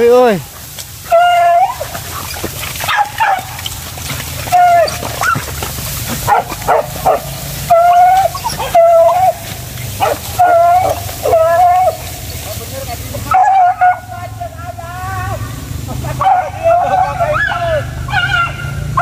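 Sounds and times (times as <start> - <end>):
dogs baying and yelping: 0.6 - 12.5, 13.2 - 14.7, 16.1 - 19.0.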